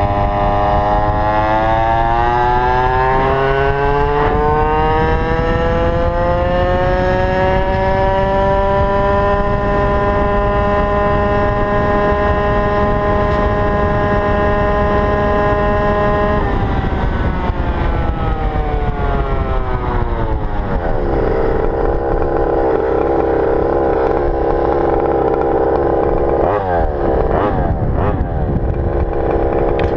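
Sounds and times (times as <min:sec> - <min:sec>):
two-stroke scooter engine revving: 0:00.0 - 0:29.9.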